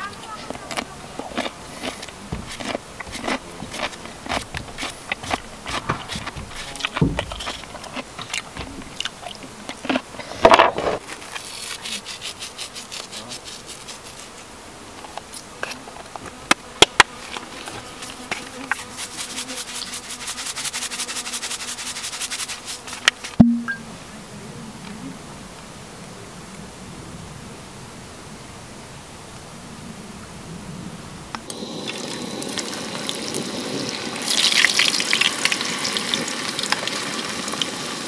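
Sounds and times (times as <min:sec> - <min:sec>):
insect buzzing: 0:00.0 - 0:38.0.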